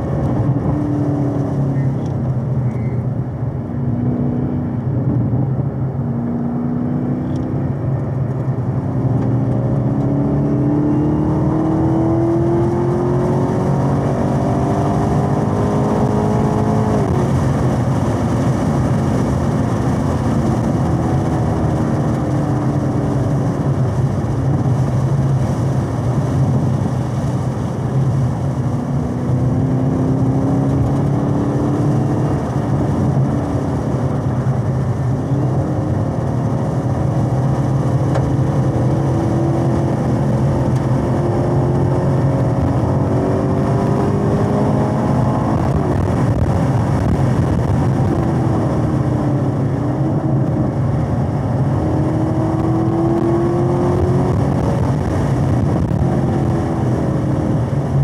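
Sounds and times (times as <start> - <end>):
car engine revving under throttle: 0.0 - 58.0.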